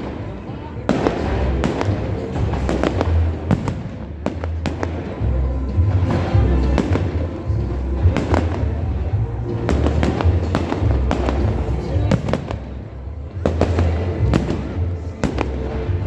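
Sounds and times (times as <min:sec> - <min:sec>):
deep fireworks booms: 0:00.0 - 0:16.0
fireworks bangs and crackling: 0:00.0 - 0:16.0
music: 0:00.0 - 0:16.0.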